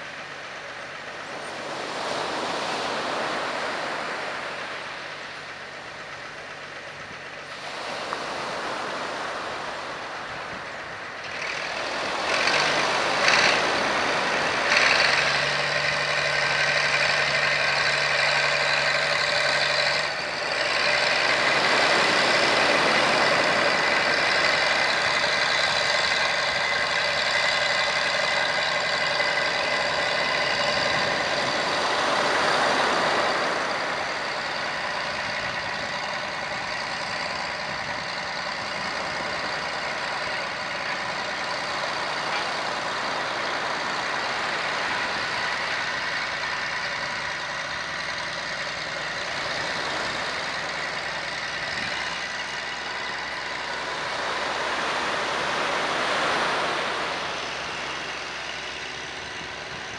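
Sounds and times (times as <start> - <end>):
bulldozer diesel engine: 0.0 - 59.9
high-pitched whine: 11.3 - 59.9.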